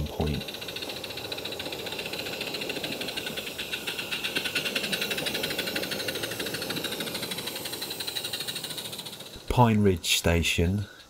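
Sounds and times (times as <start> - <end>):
steam locomotive chuffing: 0.0 - 11.0.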